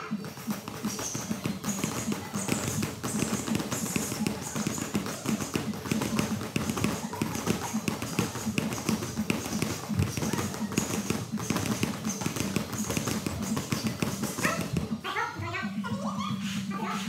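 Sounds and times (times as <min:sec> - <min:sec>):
punches and kicks on pads: 0:00.1 - 0:15.0.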